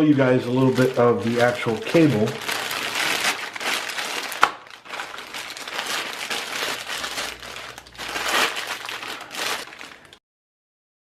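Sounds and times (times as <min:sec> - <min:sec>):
packaging crinkling and rustling: 0:00.1 - 0:10.2.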